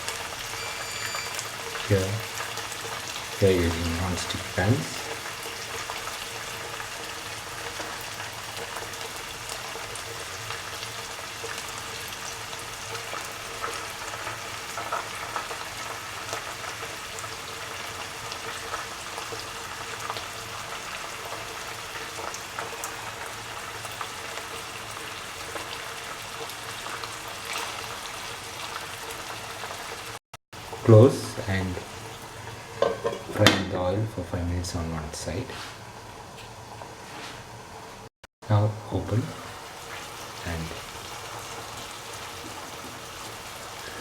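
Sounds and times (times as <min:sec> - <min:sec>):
fish sizzling in oil: 0:00.0 - 0:44.0.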